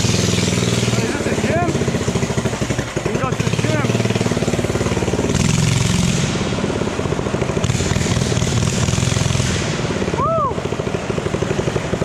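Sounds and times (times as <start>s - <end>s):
minibike engine running: 0.0s - 12.0s.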